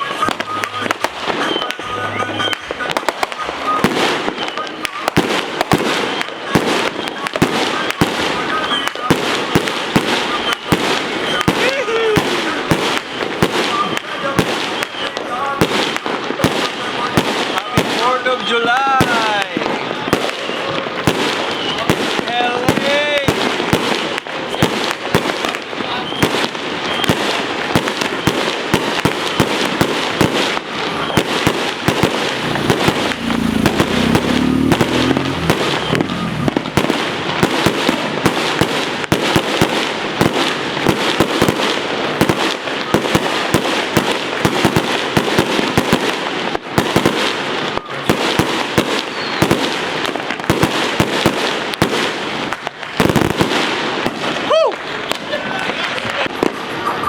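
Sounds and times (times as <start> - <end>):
firecrackers crackling bangs: 0.0 - 57.0
fireworks low booms: 0.0 - 57.0.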